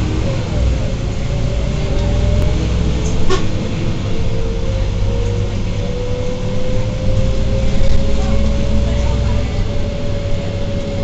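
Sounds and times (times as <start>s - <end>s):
bus engine rumble: 0.0s - 11.0s
drivetrain whine: 0.0s - 11.0s.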